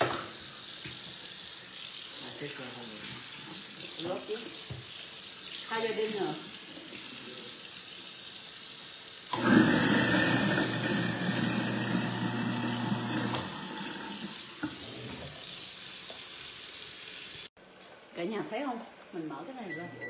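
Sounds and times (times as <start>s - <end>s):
faucet running into a sink: 0.0s - 17.5s.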